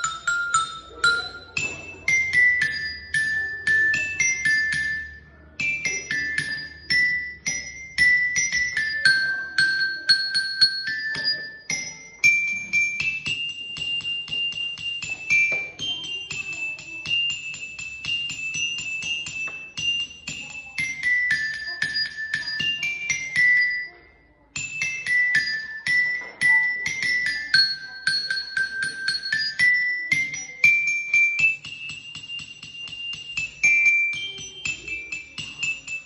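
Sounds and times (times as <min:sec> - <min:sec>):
high-pitched metallophone melody: 0:00.0 - 0:36.0.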